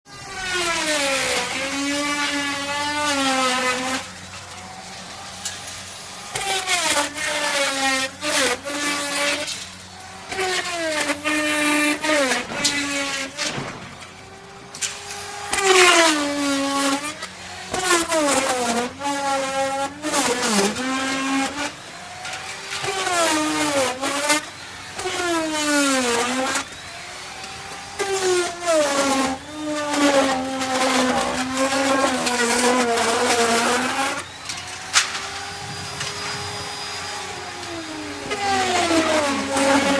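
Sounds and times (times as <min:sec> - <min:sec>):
chainsaw cutting wood: 0:00.1 - 0:39.9.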